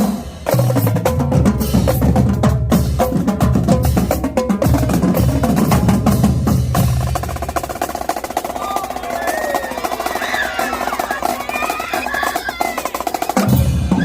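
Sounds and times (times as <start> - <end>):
snare and tenor drum roll: 0.0 - 14.0.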